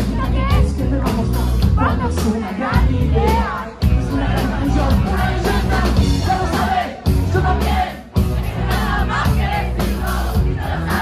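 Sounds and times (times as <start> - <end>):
singer singing into microphone: 0.0 - 9.6
live band playing: 0.0 - 11.0
crowd singing along: 1.7 - 11.0.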